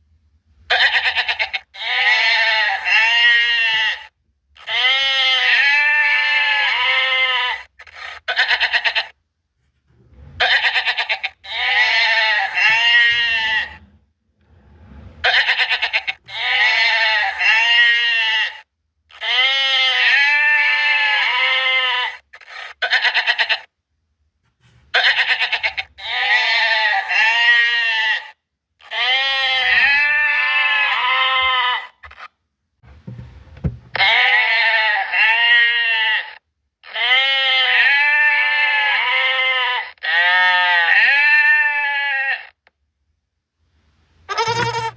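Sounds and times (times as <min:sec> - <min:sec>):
goats bleating: 0:00.7 - 0:09.2, 0:10.4 - 0:13.8, 0:15.2 - 0:23.7, 0:25.0 - 0:32.2, 0:33.9 - 0:42.6, 0:44.3 - 0:44.9.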